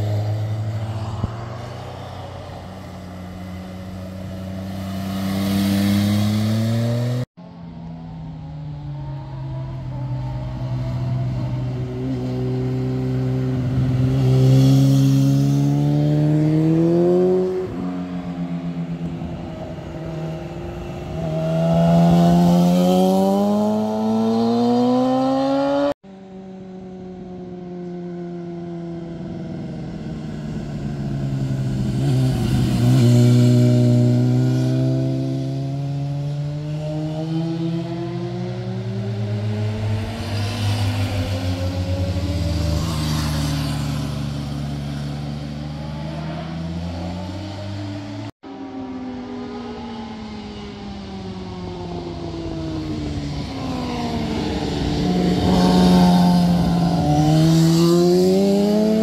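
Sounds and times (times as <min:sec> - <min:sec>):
motorcycle engines accelerating: 0:00.0 - 0:59.0.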